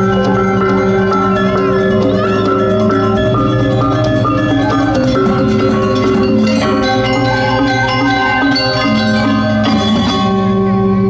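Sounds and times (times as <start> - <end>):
gamelan metallophones playing: 0.0 - 11.0.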